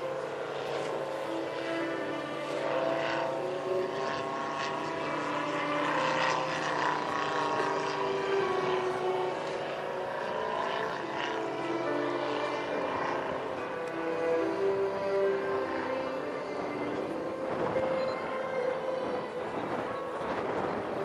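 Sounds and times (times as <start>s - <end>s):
model plane engine droning: 0.0s - 21.0s.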